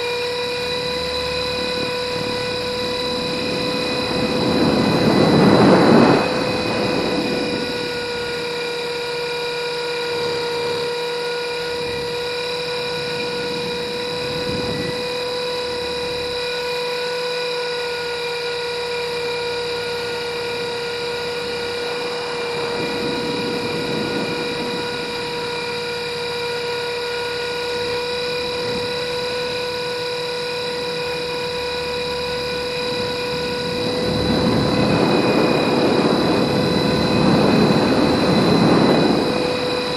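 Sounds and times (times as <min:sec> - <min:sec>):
rc helicopter motor whine: 0:00.0 - 0:39.9
wind noise: 0:00.0 - 0:39.9.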